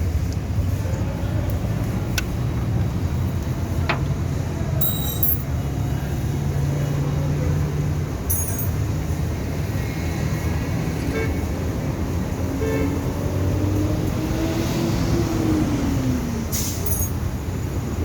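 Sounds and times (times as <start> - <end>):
motor vehicle rumble: 0.0 - 11.0, 13.1 - 18.0.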